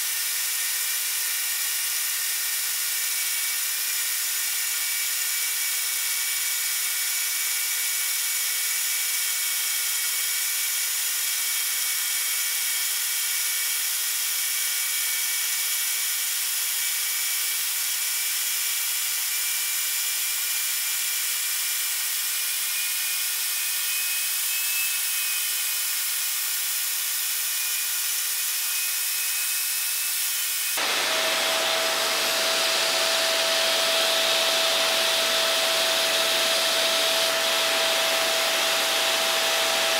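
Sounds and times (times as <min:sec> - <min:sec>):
grinder whining on steel: 0:00.0 - 0:39.9
loud steady whirr: 0:00.0 - 0:39.9.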